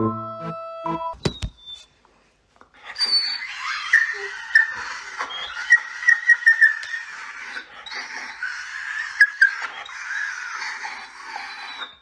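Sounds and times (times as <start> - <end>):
dog squeaks: 1.2 - 1.9, 2.8 - 12.0
dog whining in squeaky cries: 1.3 - 1.9, 2.8 - 12.0.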